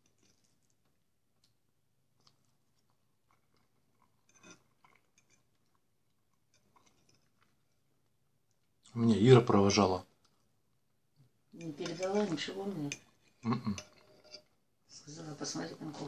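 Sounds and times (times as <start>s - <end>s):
quiet chewing: 0.0s - 9.0s, 10.0s - 14.7s.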